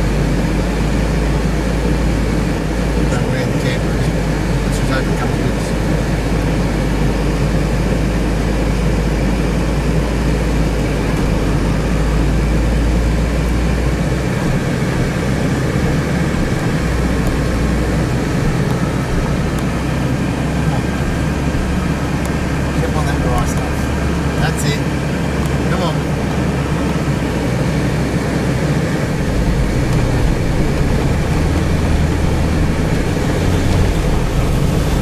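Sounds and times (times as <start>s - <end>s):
engine drone inside vehicle: 0.0s - 35.0s
tyre and road noise: 0.0s - 35.0s.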